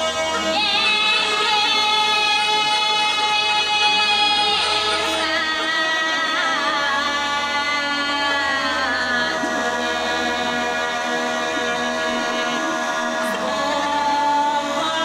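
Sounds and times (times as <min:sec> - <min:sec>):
bagpipes playing folk tune: 0:00.0 - 0:15.0
woman singing: 0:00.2 - 0:15.0.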